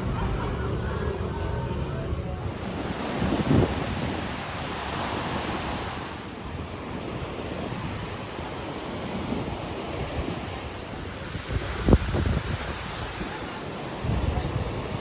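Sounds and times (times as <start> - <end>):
ocean surf rushing: 0.0 - 15.0
wind buffeting microphone: 0.0 - 15.0.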